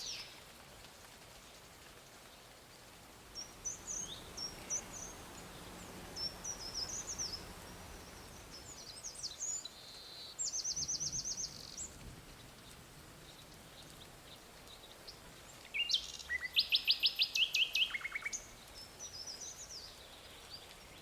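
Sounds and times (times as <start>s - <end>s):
songbird chirping and trilling: 0.0s - 0.4s, 3.4s - 21.0s
outdoor background hiss: 0.0s - 21.0s.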